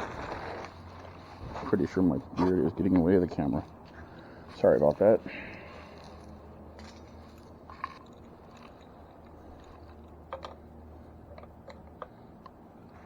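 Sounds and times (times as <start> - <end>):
bike parts and tools rattling: 0.0 - 13.0.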